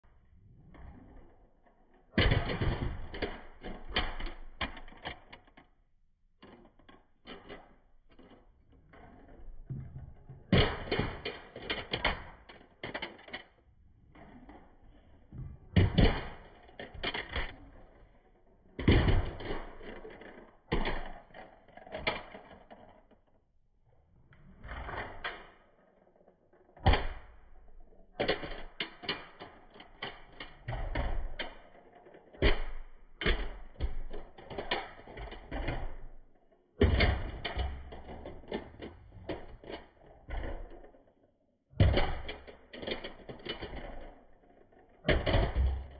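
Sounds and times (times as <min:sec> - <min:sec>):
toy cars rattling down ramp: 0:01.0 - 0:23.4, 0:24.4 - 0:45.9.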